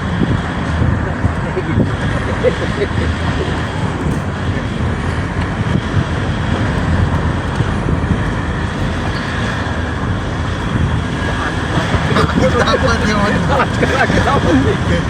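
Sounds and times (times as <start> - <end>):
road vehicle rumbling: 0.0 - 15.0
wind noise on microphone: 0.0 - 15.0.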